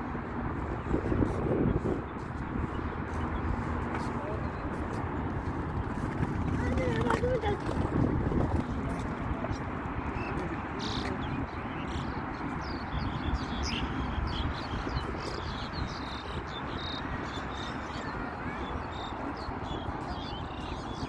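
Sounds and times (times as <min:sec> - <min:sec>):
small birds chirping: 0:00.4 - 0:21.0.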